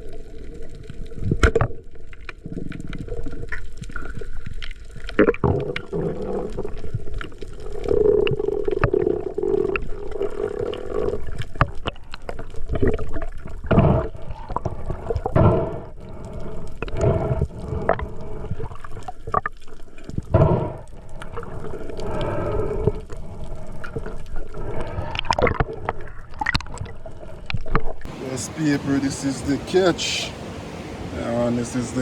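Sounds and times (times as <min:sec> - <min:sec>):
water gurgling and sloshing: 0:00.0 - 0:32.0.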